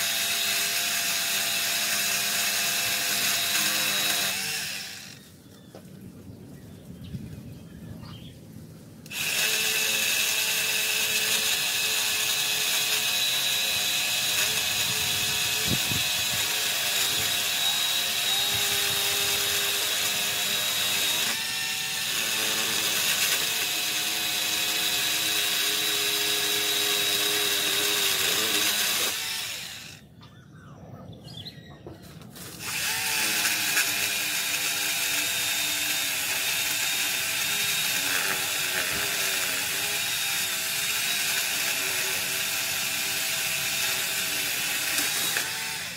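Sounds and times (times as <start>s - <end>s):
electric chainsaw motor whine: 0.0s - 5.3s, 9.1s - 30.0s, 32.4s - 45.9s.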